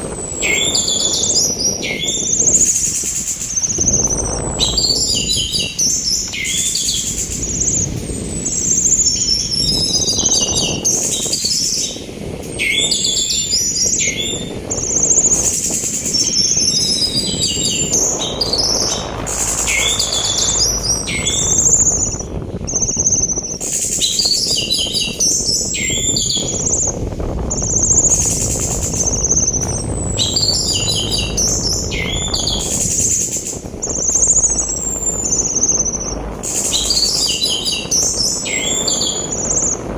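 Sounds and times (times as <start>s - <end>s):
sea wind rushing: 0.0s - 39.9s
bird singing whistles: 0.1s - 12.0s, 12.6s - 26.9s, 27.5s - 39.8s.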